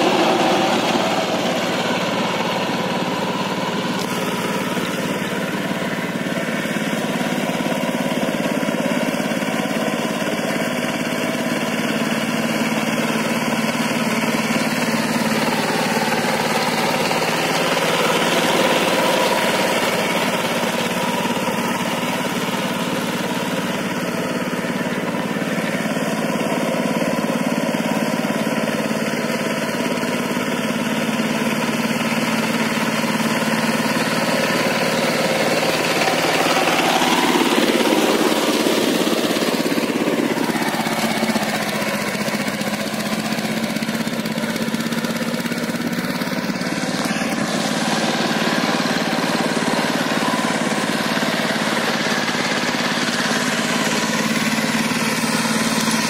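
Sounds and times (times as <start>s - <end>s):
power tiller diesel engine running: 0.0s - 56.0s.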